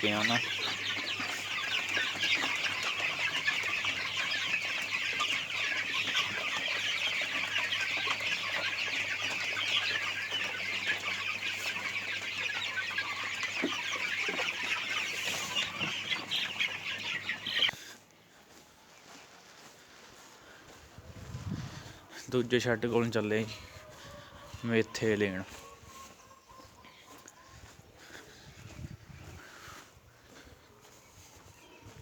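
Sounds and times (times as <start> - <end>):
chicks cheeping: 0.0 - 32.0.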